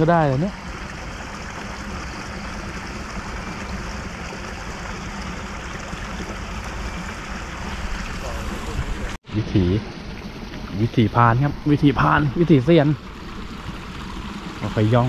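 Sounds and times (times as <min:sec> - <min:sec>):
water rushing from pipe: 0:00.0 - 0:15.0.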